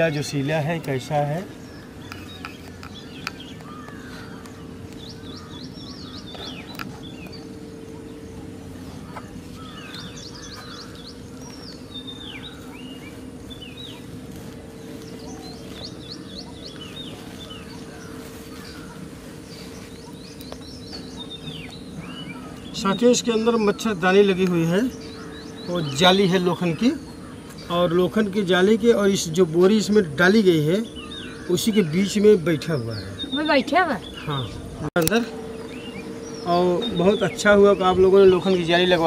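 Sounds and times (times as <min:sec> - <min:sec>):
small birds chirping: 0:00.0 - 0:39.0
steady low hum: 0:00.0 - 0:39.0.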